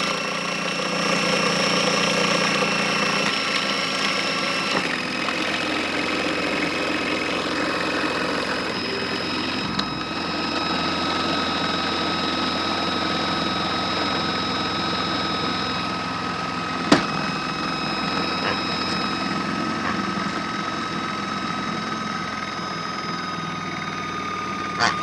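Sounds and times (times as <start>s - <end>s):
small electric motor whirring: 0.0s - 25.0s.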